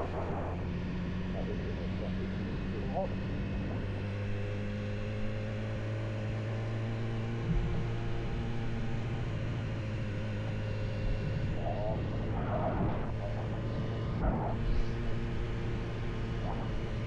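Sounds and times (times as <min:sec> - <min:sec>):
car engine drone: 0:00.0 - 0:17.0.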